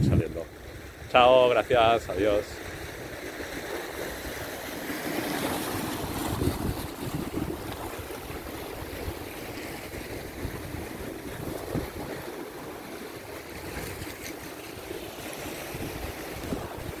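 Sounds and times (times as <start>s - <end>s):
wind rumbling on microphone: 0.0s - 17.0s
waves washing against rocks: 0.2s - 17.0s.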